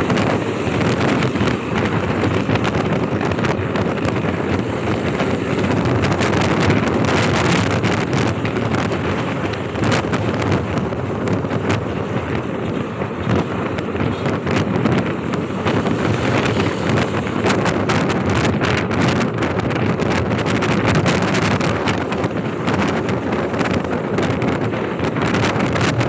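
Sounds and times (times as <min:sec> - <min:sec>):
motorcycle engine hum: 0:00.0 - 0:26.0
road noise: 0:00.0 - 0:26.0
wind buffeting microphone: 0:00.0 - 0:26.0.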